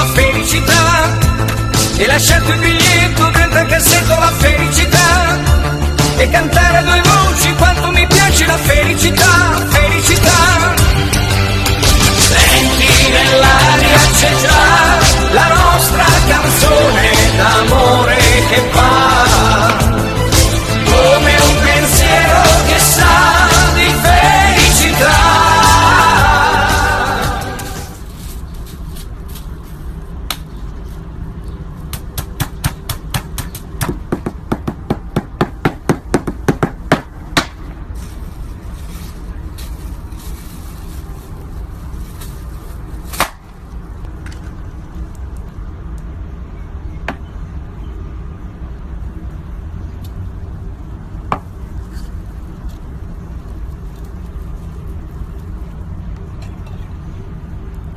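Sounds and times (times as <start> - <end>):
low background hum: 0.0 - 57.9.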